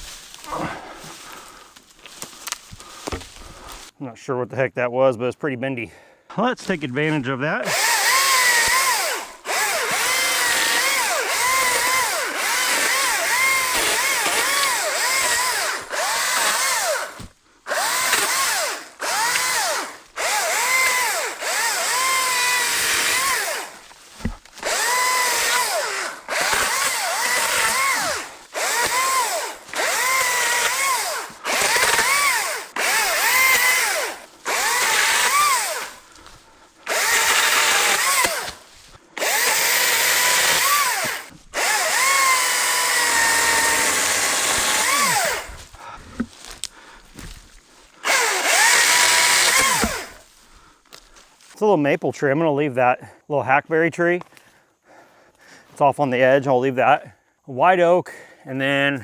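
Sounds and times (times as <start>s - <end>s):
chainsaw cutting: 0.0s - 3.9s, 6.4s - 51.6s.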